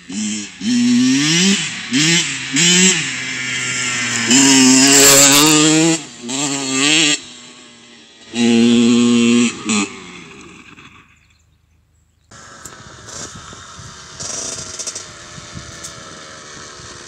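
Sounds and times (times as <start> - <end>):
small motorbike engine revving: 0.0 - 11.5, 12.3 - 17.0
steady engine sound: 0.0 - 11.6, 12.3 - 17.0.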